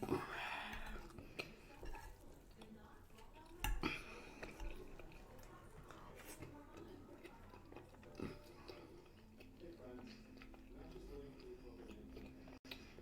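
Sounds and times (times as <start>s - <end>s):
chewing clicks and smacks: 0.0s - 13.0s.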